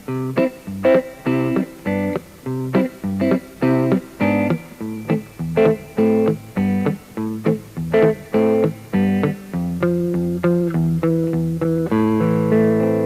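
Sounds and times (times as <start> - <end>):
plucked-string chords: 0.1 - 13.0.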